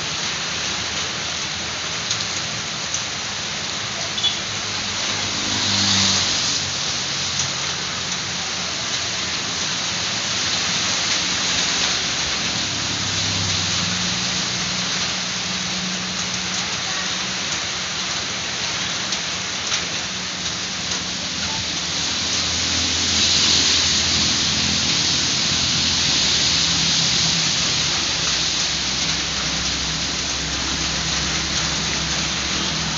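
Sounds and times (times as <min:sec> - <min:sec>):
heavy rain: 0:00.0 - 0:32.9
rain drop ticks: 0:00.1 - 0:32.9.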